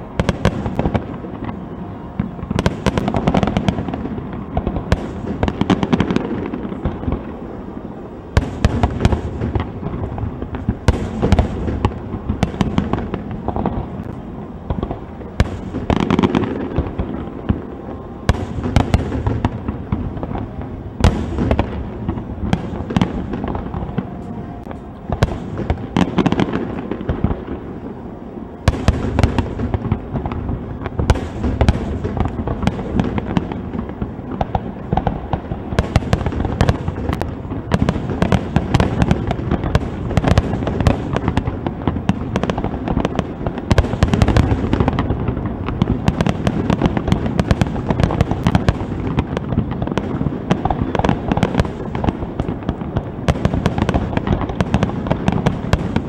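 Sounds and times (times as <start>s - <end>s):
fireworks booming: 0.0s - 56.0s
fireworks crackling: 0.0s - 56.0s.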